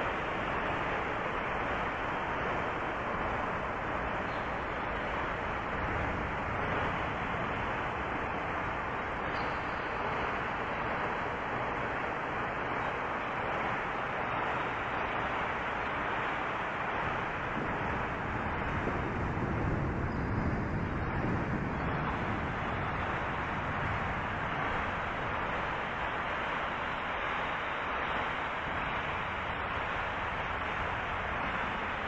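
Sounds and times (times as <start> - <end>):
wind and rain rushing hiss: 0.0 - 32.0.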